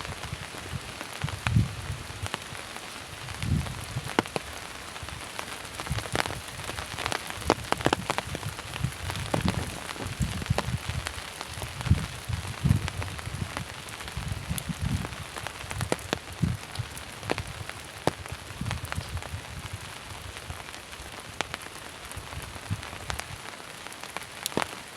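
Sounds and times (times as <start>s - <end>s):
heavy rain: 0.0s - 24.9s
raindrops tapping: 0.0s - 24.9s.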